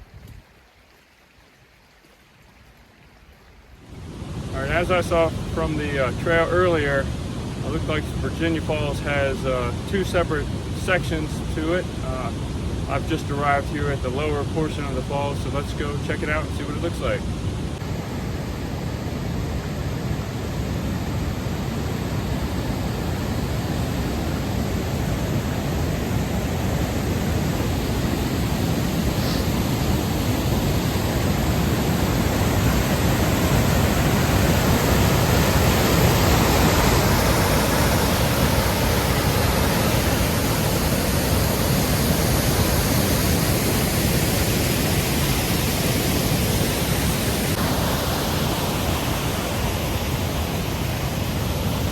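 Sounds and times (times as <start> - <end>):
waterfall rushing: 4.0 - 10.4, 11.8 - 51.9.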